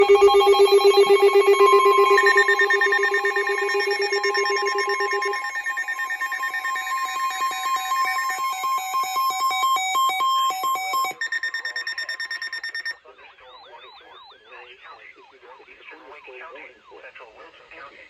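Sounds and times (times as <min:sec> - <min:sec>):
rapidly pulsing electronic tones: 0:00.0 - 0:18.0.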